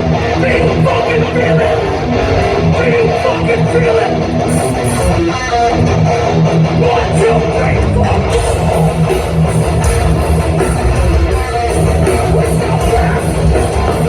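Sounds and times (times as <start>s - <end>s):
hardcore band playing live: 0.0s - 14.0s.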